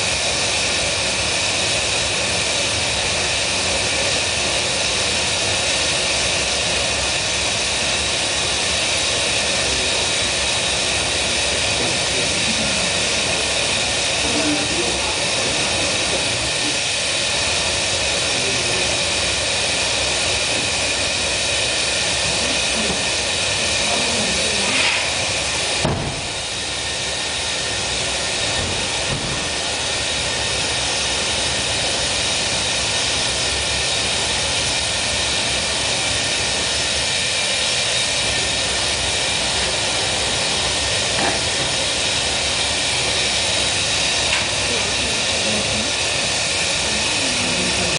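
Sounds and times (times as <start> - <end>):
furnace roaring: 0.0 - 47.9.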